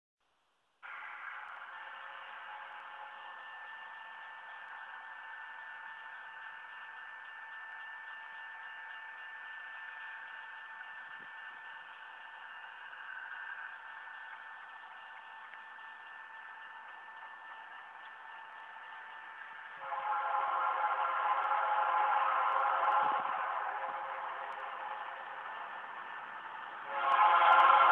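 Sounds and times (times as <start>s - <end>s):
faint steady tone: 0.2s - 27.8s.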